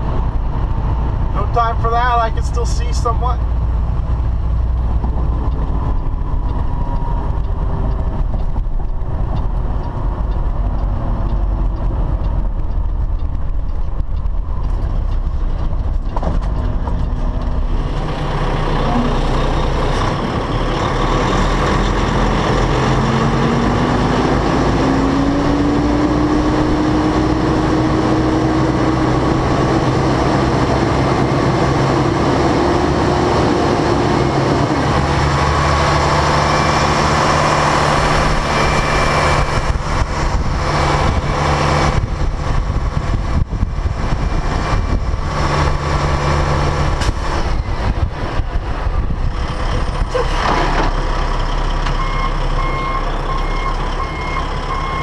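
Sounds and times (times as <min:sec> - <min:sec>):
road noise: 0:00.0 - 0:55.0
truck diesel engine: 0:00.0 - 0:55.0.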